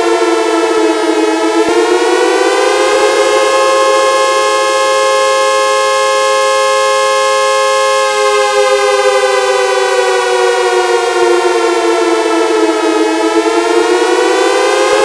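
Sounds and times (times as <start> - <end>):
air-raid siren: 0.0 - 15.0.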